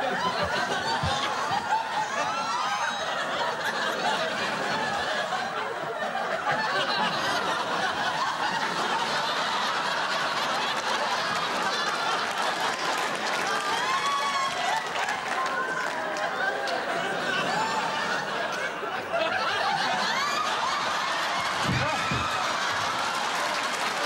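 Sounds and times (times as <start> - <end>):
studio audience laughing: 0.0 - 24.0.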